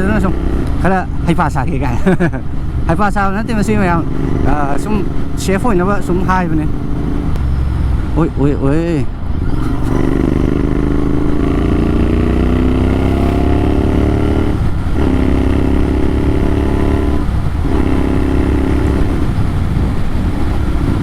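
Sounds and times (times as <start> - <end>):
motorcycle engine accelerating: 0.0 - 8.2, 9.2 - 21.0.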